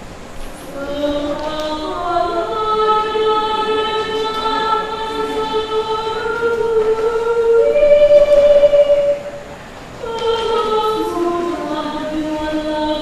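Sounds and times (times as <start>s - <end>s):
woman singing solo: 0.6s - 13.0s.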